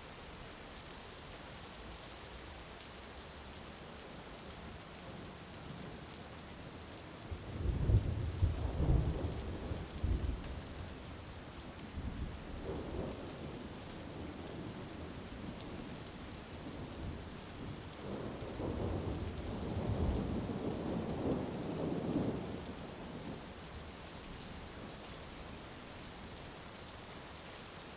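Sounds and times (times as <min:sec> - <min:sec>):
heavy rain: 0:00.0 - 0:27.9.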